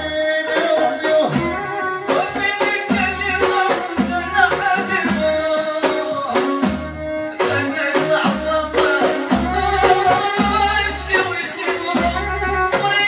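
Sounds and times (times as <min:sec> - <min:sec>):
frame drums beat: 0:00.0 - 0:13.0
man singing: 0:00.0 - 0:13.0
violin melody: 0:00.0 - 0:13.0.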